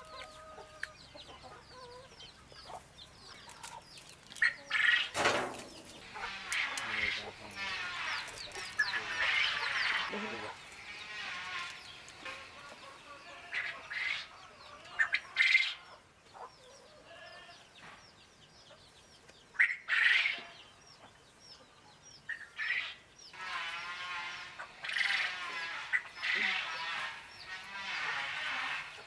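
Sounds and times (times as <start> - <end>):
poultry calling harshly: 0.0 - 17.7, 19.5 - 20.7, 22.3 - 29.0
small birds twittering: 0.0 - 29.0.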